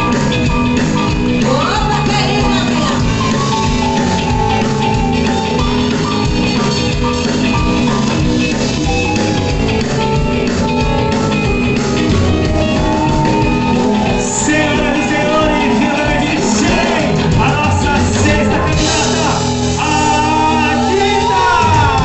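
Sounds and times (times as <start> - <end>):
rock music with drums and guitar: 0.0 - 22.0.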